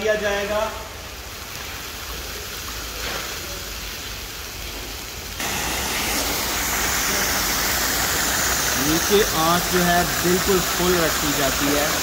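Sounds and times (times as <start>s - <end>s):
water hissing in cauldron: 0.9s - 12.0s.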